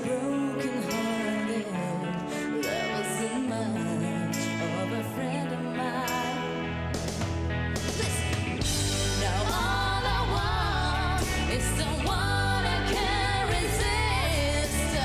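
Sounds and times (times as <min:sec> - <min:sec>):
woman singing pop song: 0:00.0 - 0:06.8, 0:08.0 - 0:15.0.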